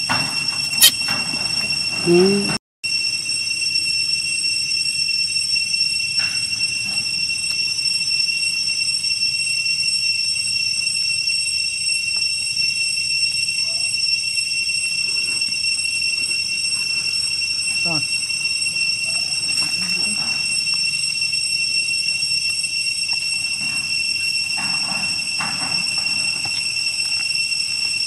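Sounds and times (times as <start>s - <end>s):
high-pitched insect drone: 0.0s - 1.0s, 2.0s - 28.0s.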